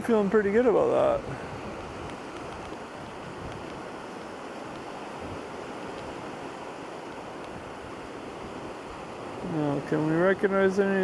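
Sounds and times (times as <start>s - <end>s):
surf washing: 0.0s - 11.0s
wind: 0.0s - 11.0s.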